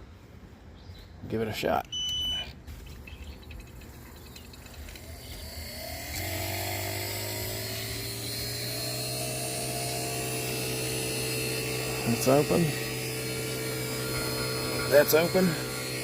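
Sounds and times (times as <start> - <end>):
vacuum pump motor humming: 2.0 - 16.0.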